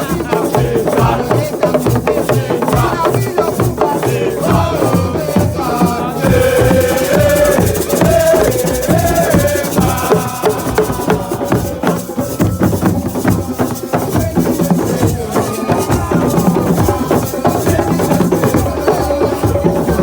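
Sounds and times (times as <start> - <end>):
drums: 0.0 - 20.0
group singing: 0.0 - 20.0
rattling hand percussion: 0.0 - 20.0.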